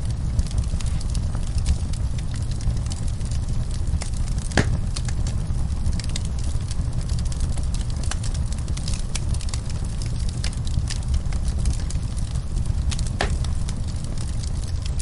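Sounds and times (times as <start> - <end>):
fireplace fire crackling: 0.0 - 15.0
sharp pops of fire: 0.0 - 15.0.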